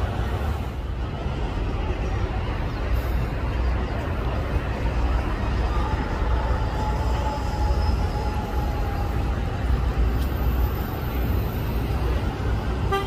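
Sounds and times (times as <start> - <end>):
bus engine low rumble: 0.0 - 13.0
street traffic: 0.0 - 13.0.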